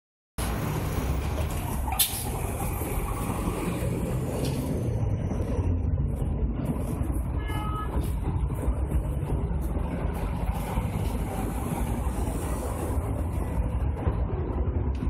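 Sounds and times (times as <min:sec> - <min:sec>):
bus diesel engine rumbling: 0:00.4 - 0:15.0.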